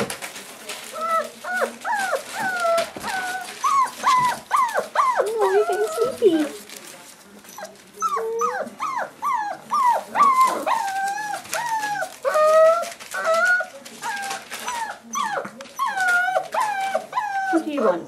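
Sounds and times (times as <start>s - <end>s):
puppies whining and yelping: 0.9s - 6.6s, 7.5s - 17.8s.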